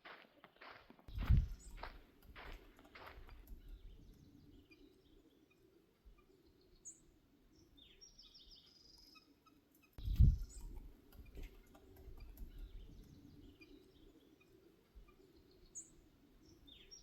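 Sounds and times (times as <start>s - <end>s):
faint bird calls: 1.1s - 17.0s.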